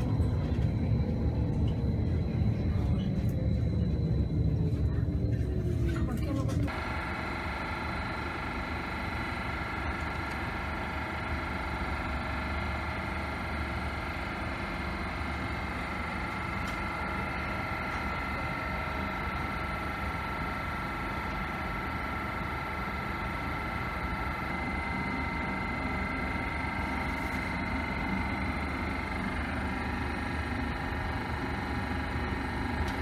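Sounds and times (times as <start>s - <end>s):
electric train equipment humming: 0.0s - 33.0s.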